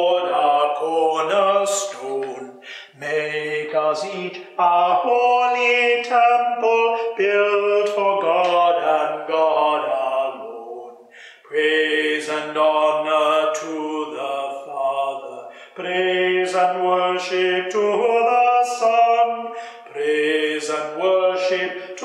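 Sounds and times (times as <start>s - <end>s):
man singing a hymn unaccompanied: 0.0s - 22.0s.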